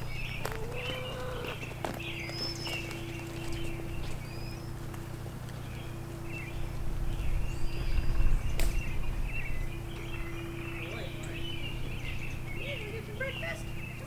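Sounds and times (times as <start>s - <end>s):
low rumble: 0.0s - 12.7s
small birds chirping: 0.0s - 14.0s
steady low hum: 0.0s - 14.0s.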